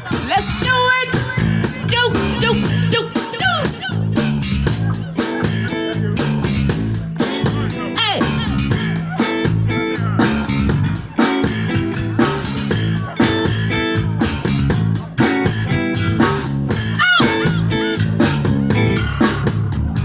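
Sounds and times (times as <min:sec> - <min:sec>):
bass guitar: 0:00.0 - 0:20.0
drum kit beat: 0:00.0 - 0:20.0
electric guitar: 0:00.0 - 0:20.0.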